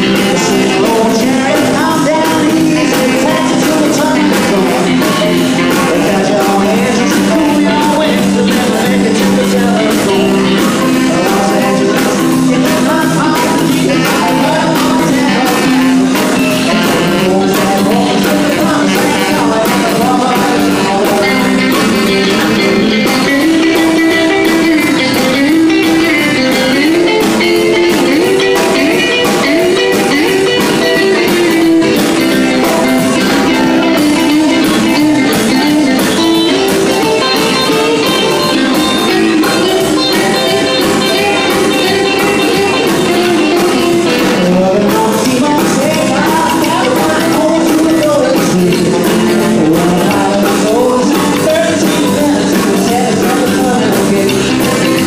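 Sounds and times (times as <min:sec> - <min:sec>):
saxophone: 0:00.0 - 0:08.4, 0:09.7 - 0:50.3
drum kit: 0:00.0 - 0:55.0
electric guitar: 0:00.0 - 0:55.0
man singing: 0:00.0 - 0:55.0
upright double bass: 0:00.0 - 0:55.0.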